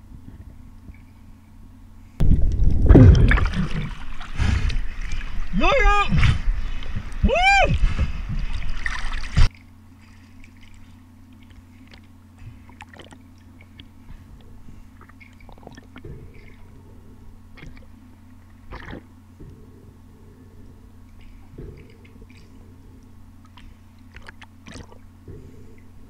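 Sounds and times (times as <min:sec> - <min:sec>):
low underwater hum: 0:00.0 - 0:26.0.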